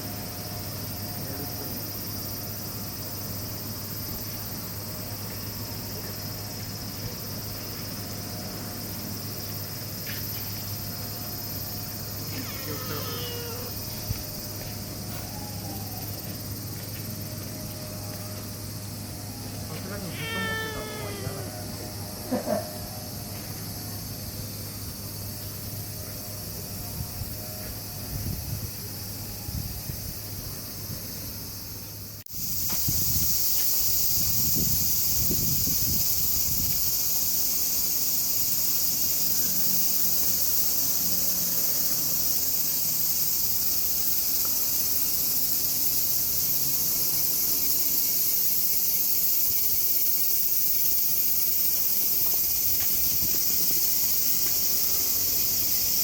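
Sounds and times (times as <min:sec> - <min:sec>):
insect chorus chirring: 0:00.0 - 0:56.0.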